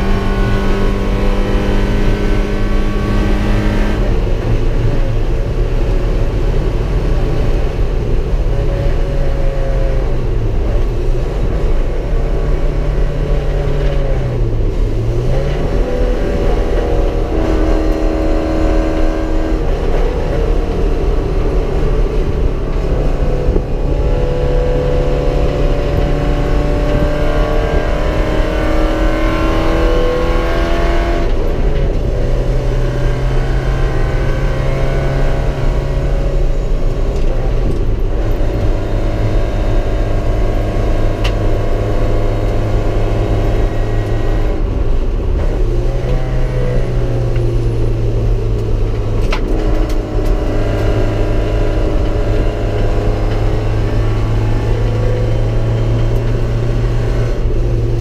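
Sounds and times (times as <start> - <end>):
race car engine from inside cabin: 0.0 - 58.0.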